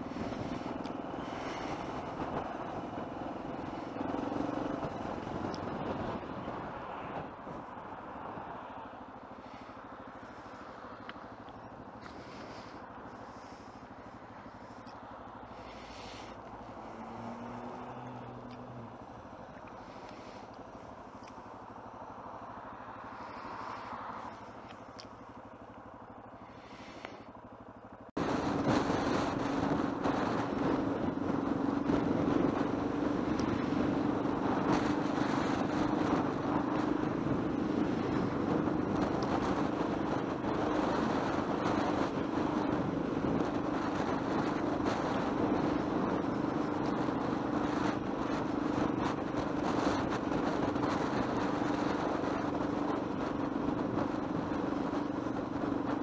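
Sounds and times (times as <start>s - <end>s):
motorcycle engine drone: 0.0s - 56.0s
wind and road noise: 0.0s - 56.0s.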